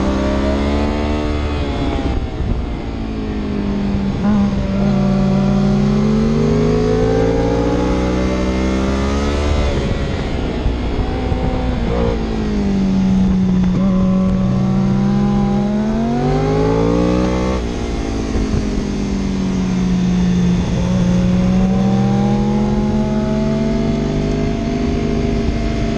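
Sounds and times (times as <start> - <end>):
vehicle engine accelerating hard: 0.0 - 25.9.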